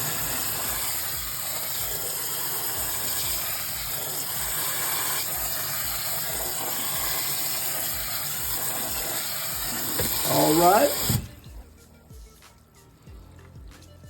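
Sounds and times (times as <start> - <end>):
tap water running: 0.0 - 11.8.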